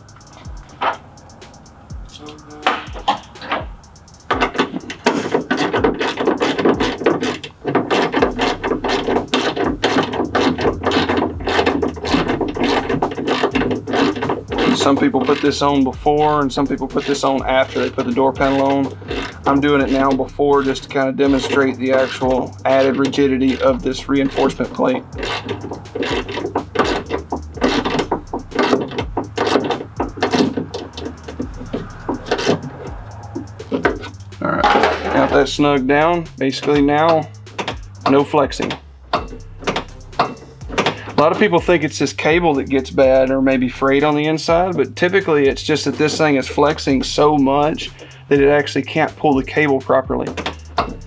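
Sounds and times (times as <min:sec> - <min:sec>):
ratchet wrench clicking: 0:00.0 - 0:51.0.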